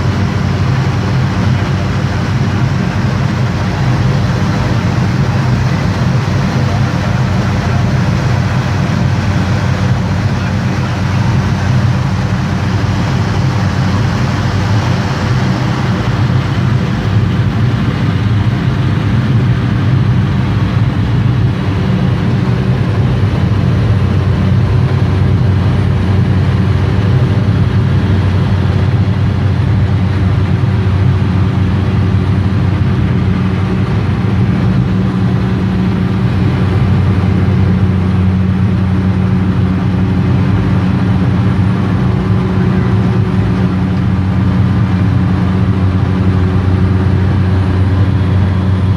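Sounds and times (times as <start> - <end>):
propeller plane engine drone: 0.0 - 48.9.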